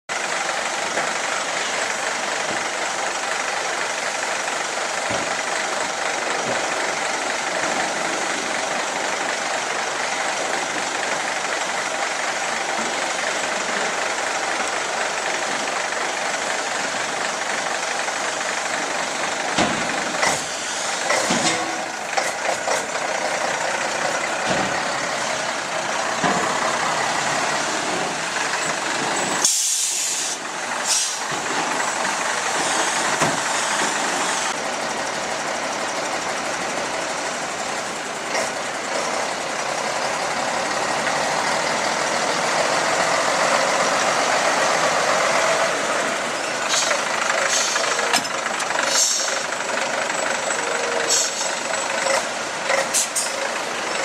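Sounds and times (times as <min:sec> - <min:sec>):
diesel engine running: 0:00.1 - 0:54.0.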